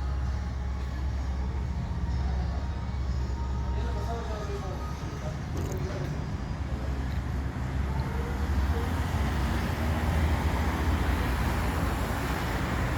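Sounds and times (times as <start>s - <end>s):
motor vehicle rumbling: 0.0s - 12.9s.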